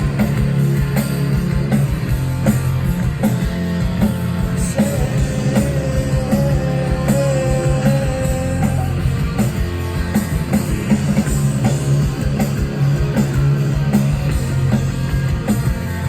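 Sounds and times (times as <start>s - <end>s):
drum kit steady beat: 0.0s - 16.0s
electric guitars: 0.0s - 16.0s
live rock band playing: 0.0s - 16.0s.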